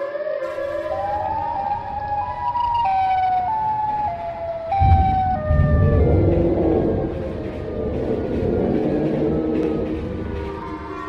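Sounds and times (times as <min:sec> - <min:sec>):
siren wail: 0:00.0 - 0:11.0
deep rumble: 0:00.8 - 0:11.0.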